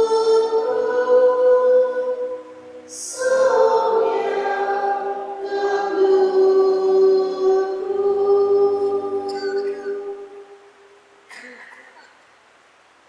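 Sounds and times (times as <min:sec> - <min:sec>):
choir singing a hymn: 0:00.0 - 0:10.6.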